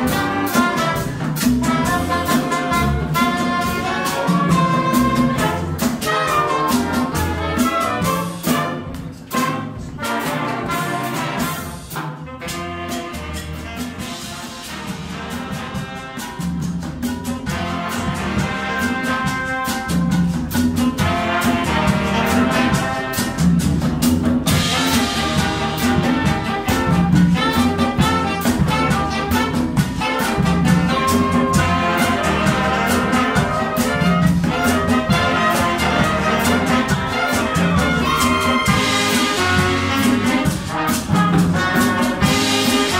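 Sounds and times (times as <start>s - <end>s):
bass: 0.0s - 42.9s
congas and drum kit: 0.0s - 42.9s
latin brass band playing: 0.0s - 42.9s
saxophones and horns: 0.0s - 42.9s.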